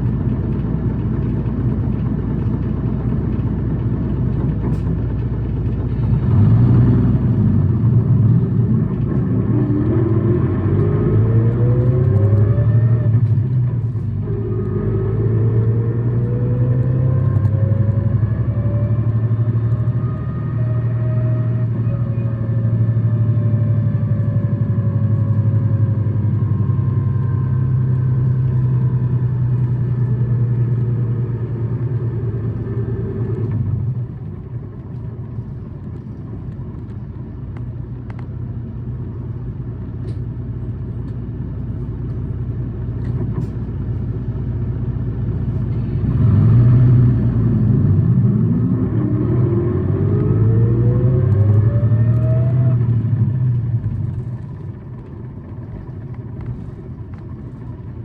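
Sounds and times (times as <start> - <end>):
bus engine running: 0.0 - 58.0
engine whine: 0.0 - 58.0.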